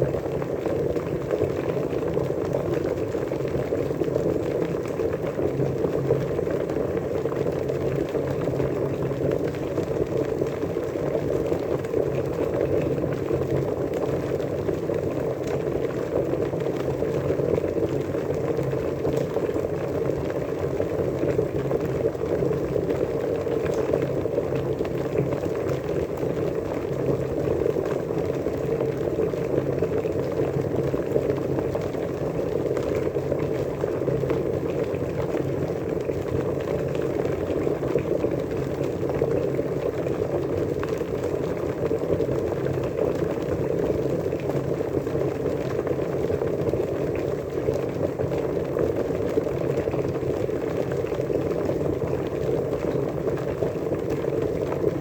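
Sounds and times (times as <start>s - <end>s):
water boiling and bubbling: 0.0s - 55.0s.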